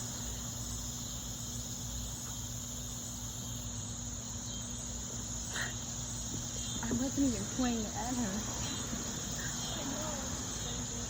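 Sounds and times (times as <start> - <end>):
insects chirping: 0.0 - 11.0
low steady hum: 0.0 - 11.0.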